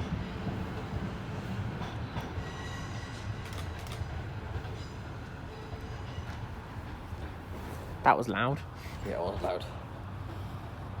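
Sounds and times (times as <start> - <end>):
diesel train engine rumble: 0.0 - 11.0.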